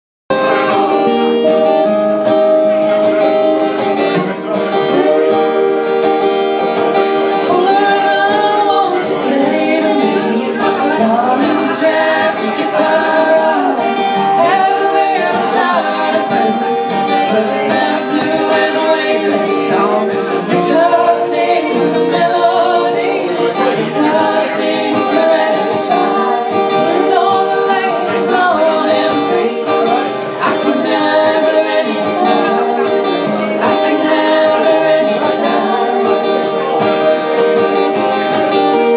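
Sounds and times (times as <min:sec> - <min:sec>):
guitar: 0:00.3 - 0:38.9
person singing: 0:00.3 - 0:38.9.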